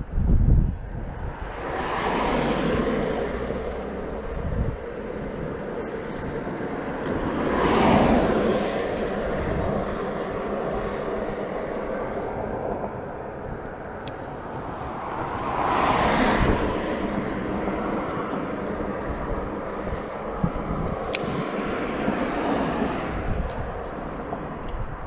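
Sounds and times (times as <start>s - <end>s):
cars passing on bridge: 0.0s - 25.0s.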